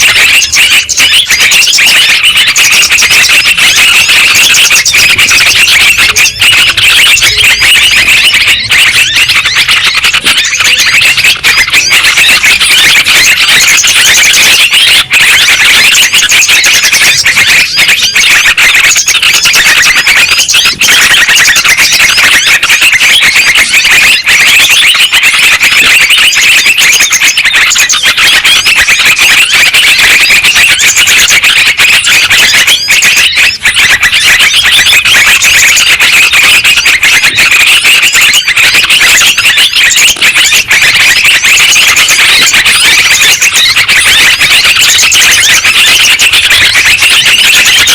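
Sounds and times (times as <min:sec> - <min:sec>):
birds chirping in chorus: 0:00.0 - 0:47.9.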